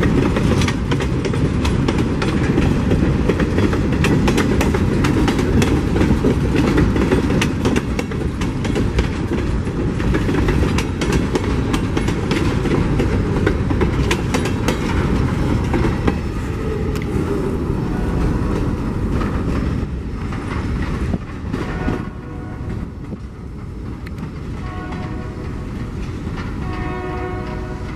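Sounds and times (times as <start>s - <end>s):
freight train rolling past: 0.0s - 27.9s.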